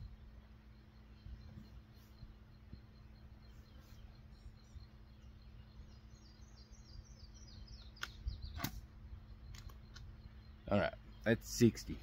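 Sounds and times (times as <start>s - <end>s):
faint outdoor hum: 0.0s - 12.0s
songbird singing: 0.0s - 12.0s.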